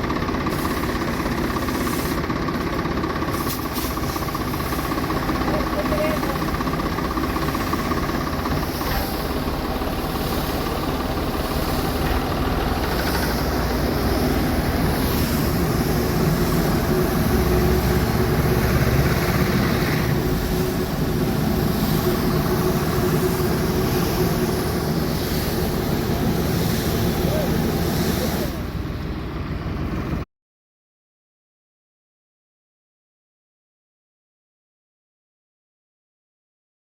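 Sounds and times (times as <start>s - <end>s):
tractor engine running: 0.0s - 30.2s.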